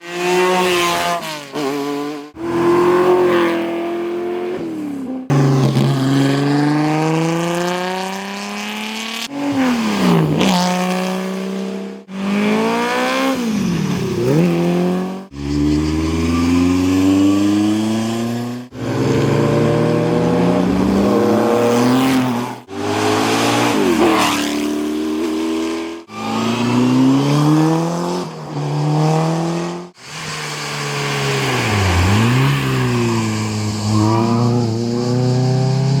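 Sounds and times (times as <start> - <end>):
cars passing at speed: 0.0 - 36.0
racing car engines accelerating: 0.0 - 36.0.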